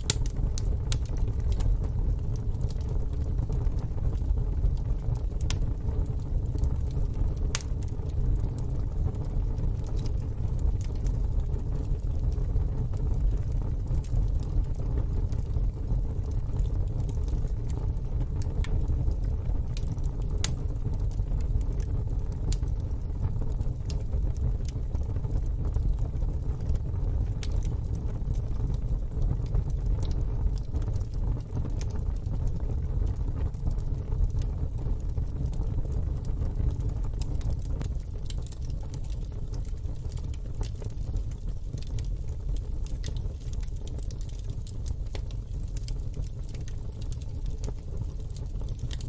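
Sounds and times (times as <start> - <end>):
fire crackling and popping: 0.0 - 49.0
low rumble of flames: 0.0 - 49.0.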